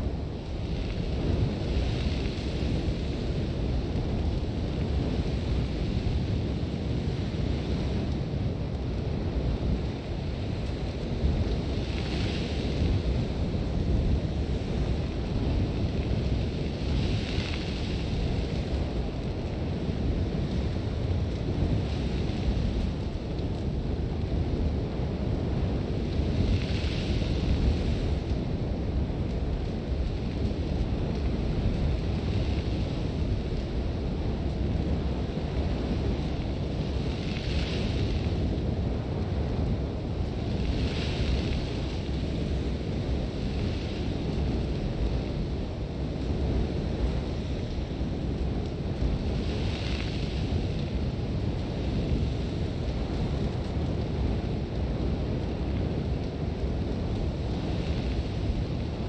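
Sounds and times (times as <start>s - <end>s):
strong wind rumbling: 0.0s - 59.0s.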